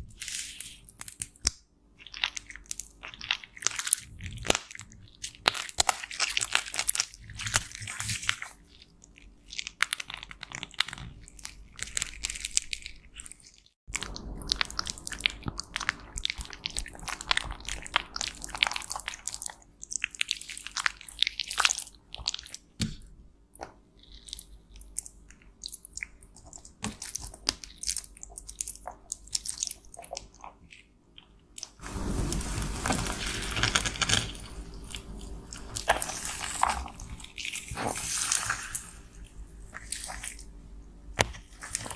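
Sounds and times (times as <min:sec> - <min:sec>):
cosmetics crunching and crackling: 0:00.1 - 0:22.8, 0:23.6 - 0:41.9.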